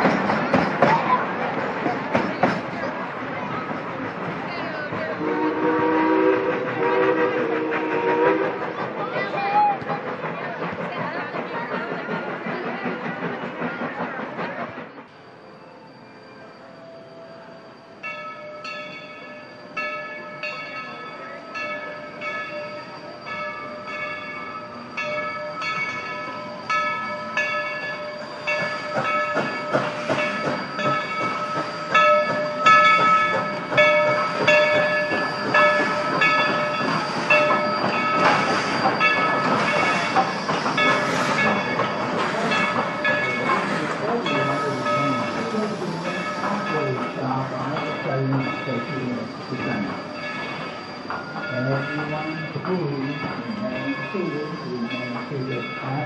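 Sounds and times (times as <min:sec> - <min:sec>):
rush of steam: 0:00.0 - 0:56.0
steam locomotive bell ringing: 0:00.0 - 0:56.0.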